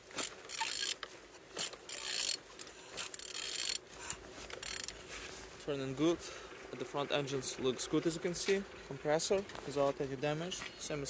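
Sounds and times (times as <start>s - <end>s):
engine turning over rattling: 0.0s - 11.0s.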